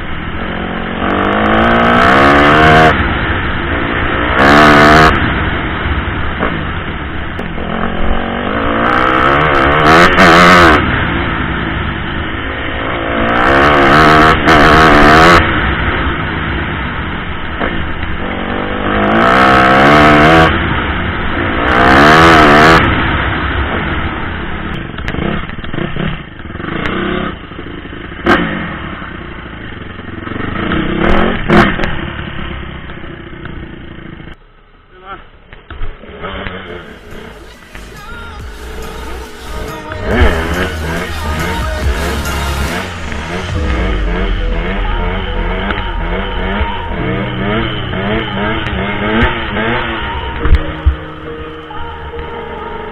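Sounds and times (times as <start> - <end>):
motorcycle engine accelerating: 0.0 - 34.4, 35.9 - 52.9.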